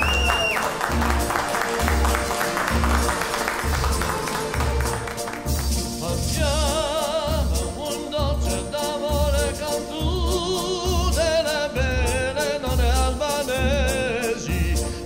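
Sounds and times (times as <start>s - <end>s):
operatic singing: 0.1s - 15.0s.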